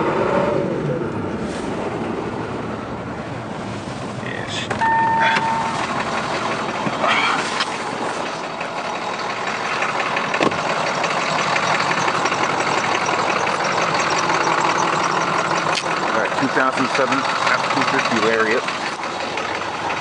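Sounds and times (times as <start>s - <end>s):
diesel truck engine idling: 1.0s - 20.0s.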